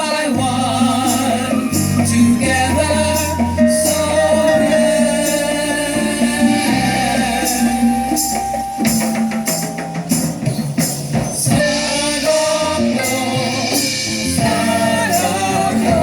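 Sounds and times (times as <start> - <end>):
person singing: 0.0 - 10.2, 11.5 - 16.0
bass line: 0.0 - 16.0.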